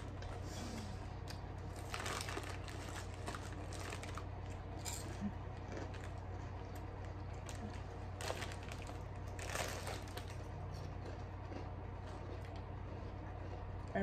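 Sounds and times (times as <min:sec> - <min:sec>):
chip bag crinkling and rustling: 0:01.6 - 0:13.6.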